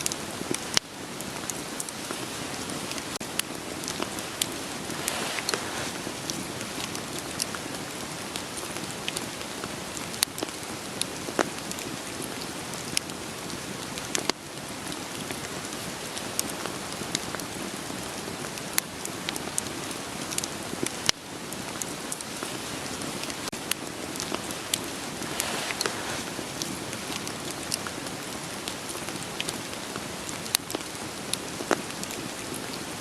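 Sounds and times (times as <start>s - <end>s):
campfire pops and crackles: 0.0s - 33.0s
steady rain falling: 0.0s - 33.0s.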